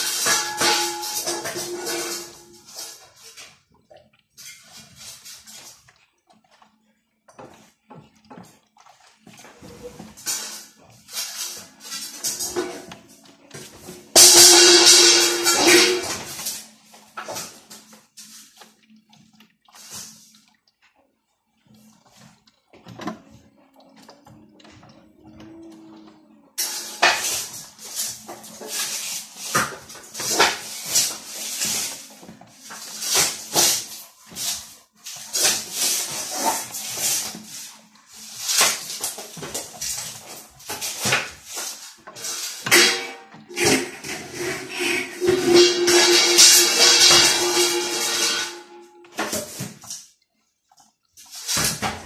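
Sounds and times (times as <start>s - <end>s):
water sloshing in washing machine drum: 0.0s - 50.1s.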